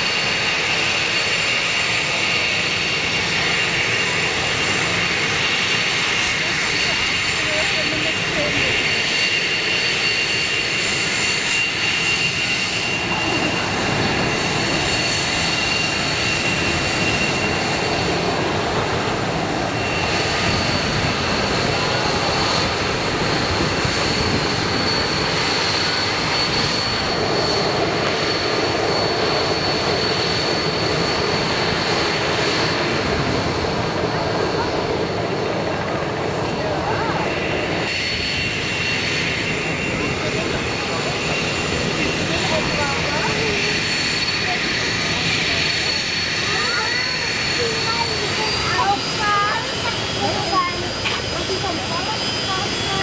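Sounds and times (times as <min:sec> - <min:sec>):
high-pitched engine whine: 0:00.0 - 0:53.0
jet engines rushing: 0:00.0 - 0:53.0.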